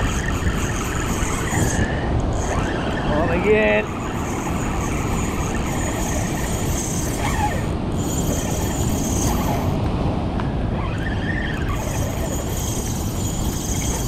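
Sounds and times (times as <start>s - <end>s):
fishing reel winding: 0.0s - 9.8s, 10.8s - 14.0s
wind on microphone: 0.0s - 14.0s.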